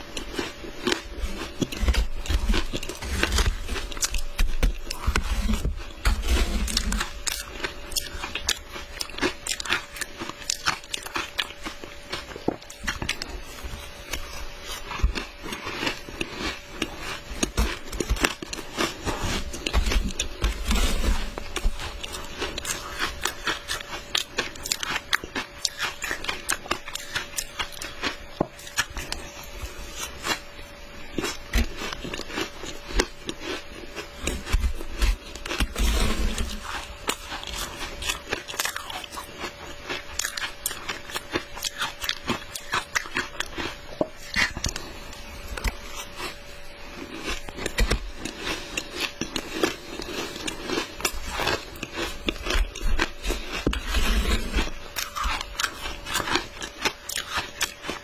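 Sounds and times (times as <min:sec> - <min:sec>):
crunching ice chewing: 0:00.0 - 0:58.0.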